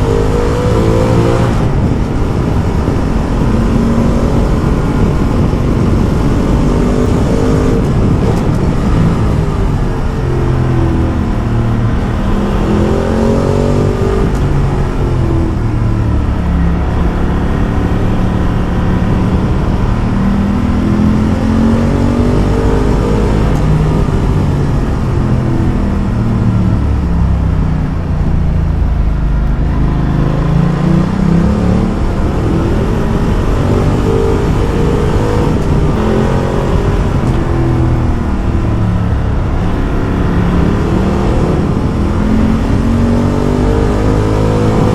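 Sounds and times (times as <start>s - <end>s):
motorcycle engine revving: 0.0s - 44.9s
wind and road noise: 0.0s - 44.9s.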